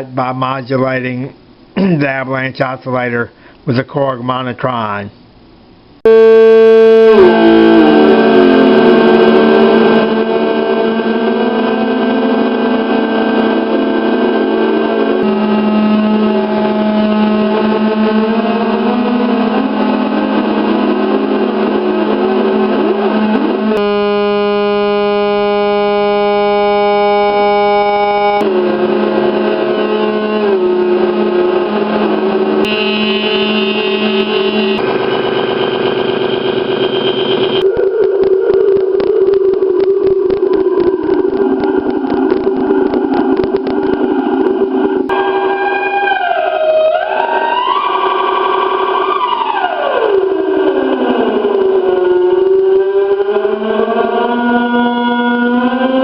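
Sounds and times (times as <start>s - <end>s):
synthesizer buzzing tone: 6.0s - 54.0s
low synth drone: 6.1s - 56.0s.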